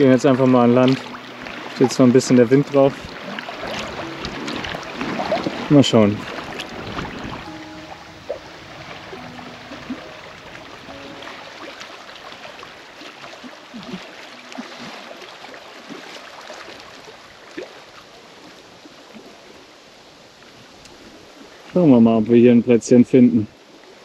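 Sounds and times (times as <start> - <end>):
water splashing and lapping: 0.0 - 22.0
wind: 0.0 - 24.0.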